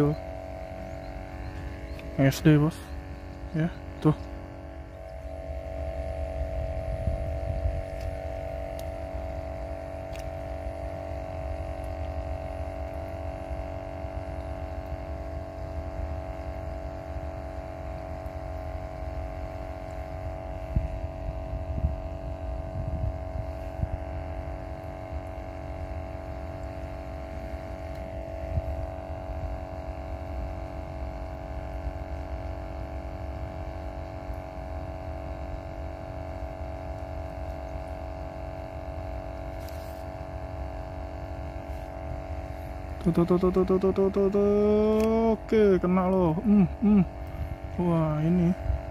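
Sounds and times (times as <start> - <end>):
steady mechanical hum: 0.0 - 48.9.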